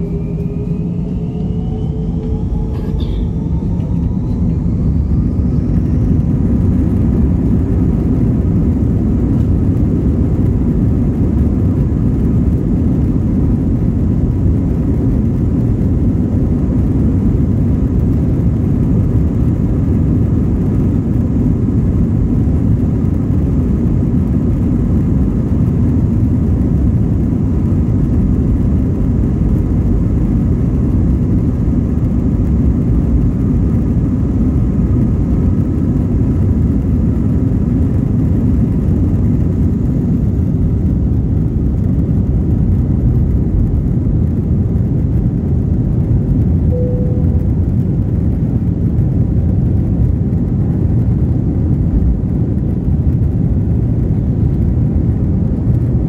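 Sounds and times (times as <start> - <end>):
jet engine rumble in cabin: 0.0 - 56.0.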